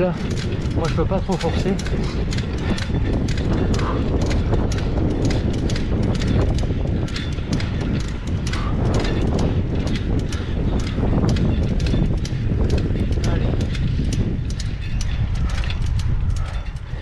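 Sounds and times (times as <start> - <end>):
fast sharp clicks: 0.0 - 17.0
wind rumble on microphone: 0.0 - 17.0.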